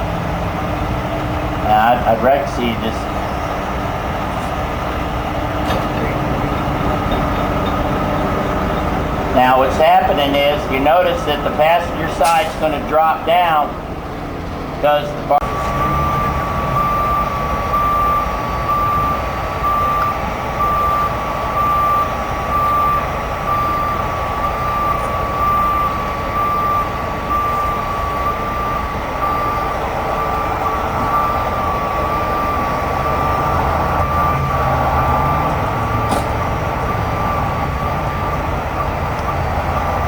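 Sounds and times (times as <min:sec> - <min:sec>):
diesel truck engine running: 0:00.0 - 0:40.0
truck backup alarm beeping: 0:00.0 - 0:40.0.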